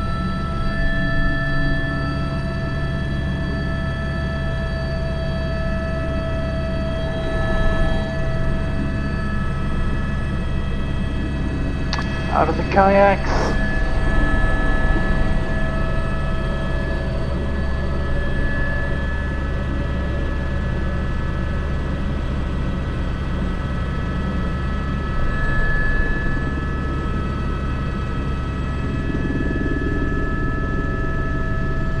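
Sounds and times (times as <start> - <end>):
helicopter rotor rumble: 0.0 - 32.0
helicopter turbine whine: 0.0 - 32.0.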